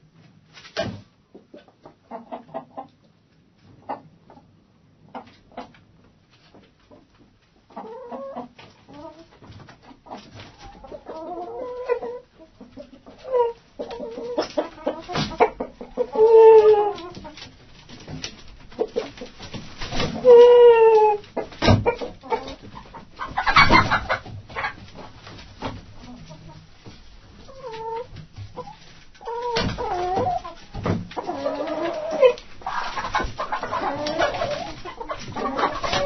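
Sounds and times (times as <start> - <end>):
chickens clucking: 0.7 - 36.0
drawn-out chicken calls: 1.4 - 3.1, 7.6 - 36.0.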